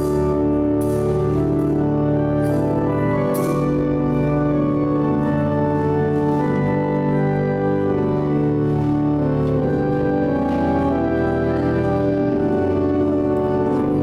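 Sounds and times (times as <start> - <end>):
church organ sustained chords: 0.0 - 14.0.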